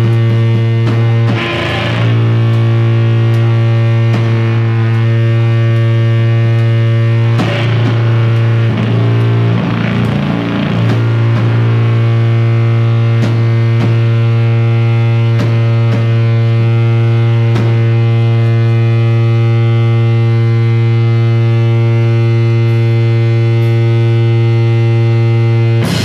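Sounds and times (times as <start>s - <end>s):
distorted electric guitar drone: 0.0s - 26.0s.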